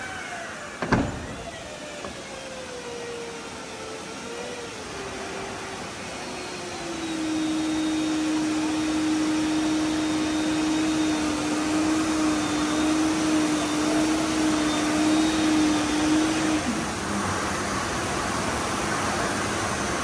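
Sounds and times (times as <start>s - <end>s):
hydraulic pump whine: 0.0s - 20.0s.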